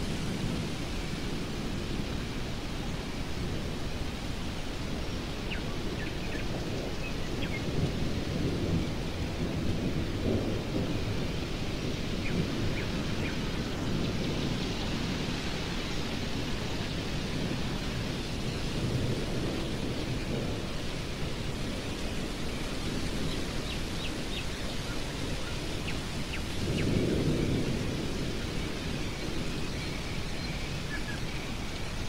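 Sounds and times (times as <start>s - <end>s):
stormy wind: 0.0s - 32.0s
distant thunder rumbling: 5.7s - 32.0s.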